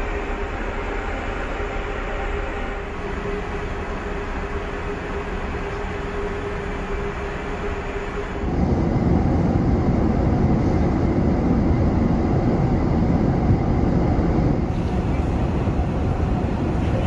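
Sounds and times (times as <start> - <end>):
engine and airflow rumble: 0.0 - 17.0.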